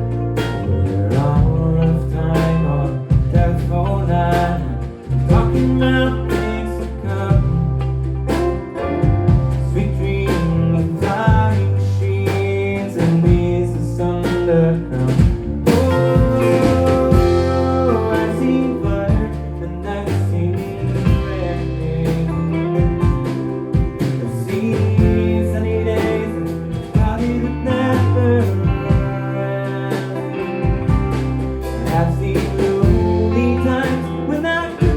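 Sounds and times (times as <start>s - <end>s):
live country-rock band playing: 0.0s - 34.9s.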